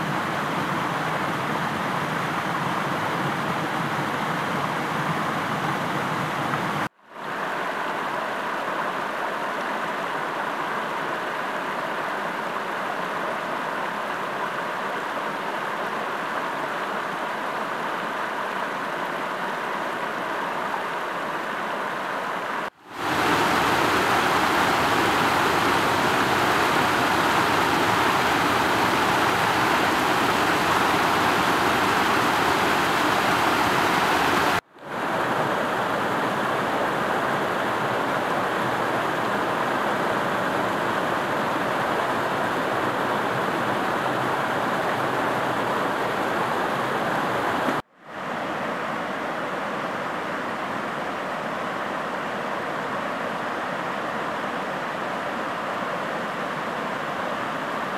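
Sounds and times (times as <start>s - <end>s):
creek water rushing over rocks: 0.0s - 51.6s.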